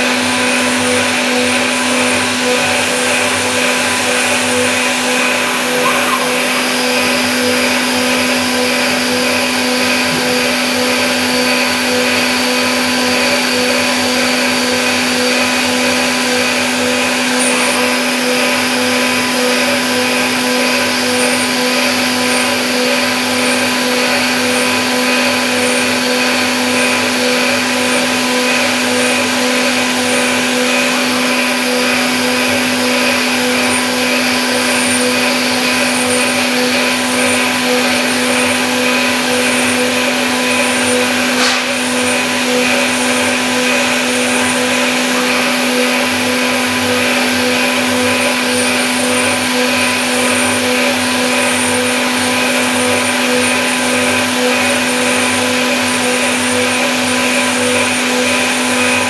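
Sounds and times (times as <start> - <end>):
milling machine motor whine: 0.0 - 59.0.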